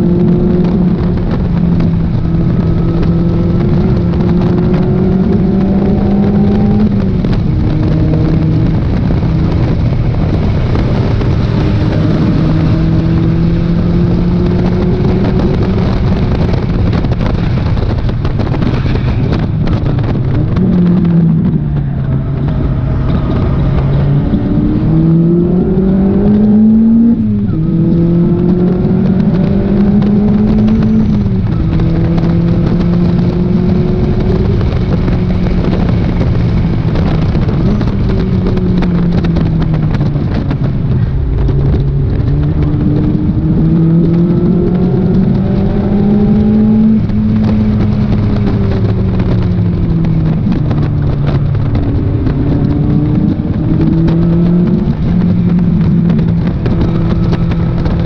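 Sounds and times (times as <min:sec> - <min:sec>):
sports car engine revving: 0:00.0 - 0:58.0
wind rush: 0:00.0 - 0:58.0.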